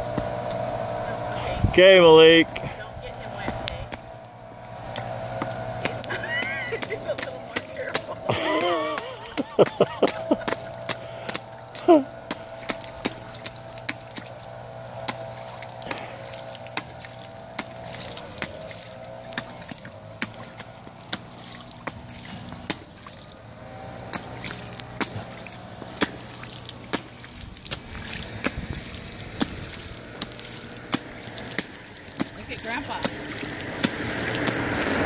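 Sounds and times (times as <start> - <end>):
low hum: 0.0 - 35.0
boots splashing in puddle: 4.6 - 35.0.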